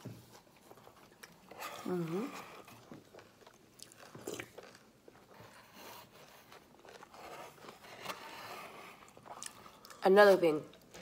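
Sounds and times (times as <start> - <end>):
chewing and crunching cereal: 0.0 - 11.0.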